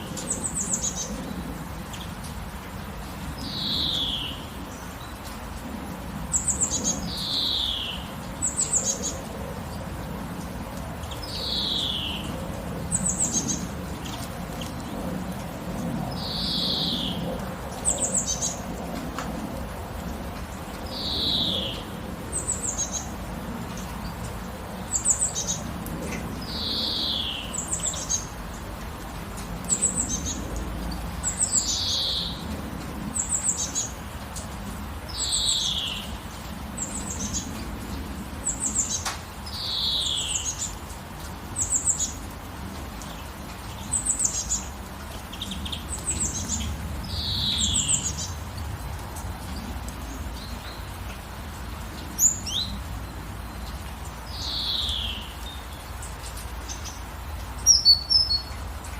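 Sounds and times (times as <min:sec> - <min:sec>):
light rain hiss: 0:00.0 - 0:58.9.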